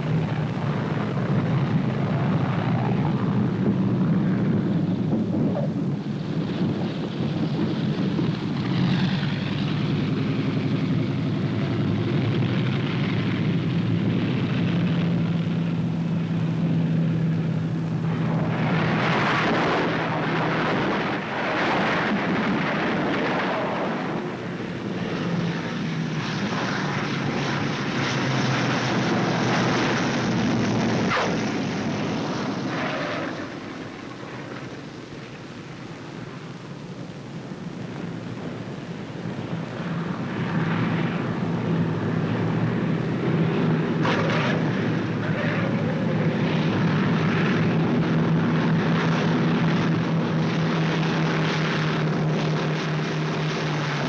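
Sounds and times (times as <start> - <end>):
propeller plane engines droning: 0.0 - 54.0.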